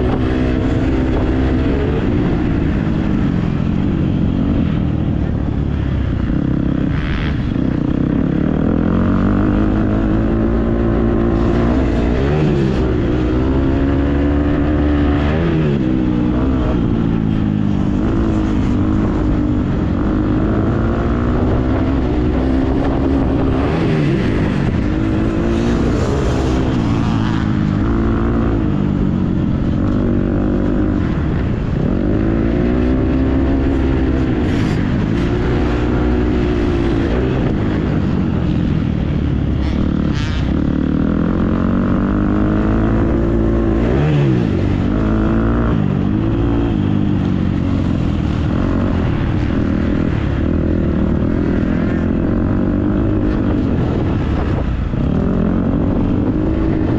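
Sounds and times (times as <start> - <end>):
dirt bike engine revving: 4.4 - 56.9.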